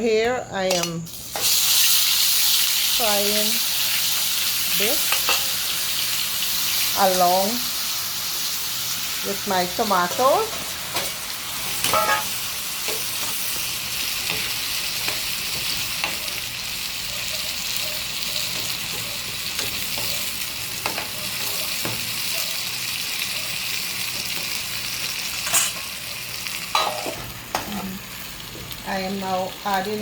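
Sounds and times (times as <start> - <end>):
food sizzling in hot oil: 0.7 - 30.0.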